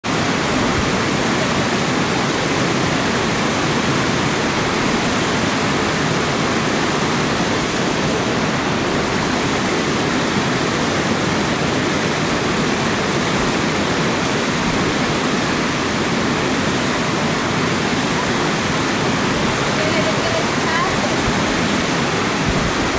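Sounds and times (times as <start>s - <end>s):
water rushing: 0.0s - 22.9s.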